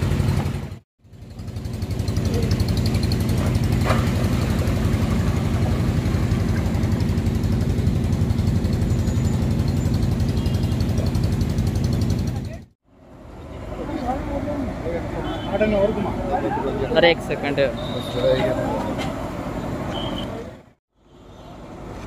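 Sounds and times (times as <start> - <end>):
vehicle engine idling: 0.0 - 20.2.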